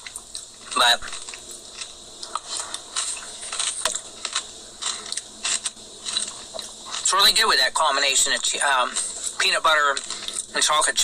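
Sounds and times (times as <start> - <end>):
person chewing crunchy food: 0.0 - 7.1, 8.2 - 10.6.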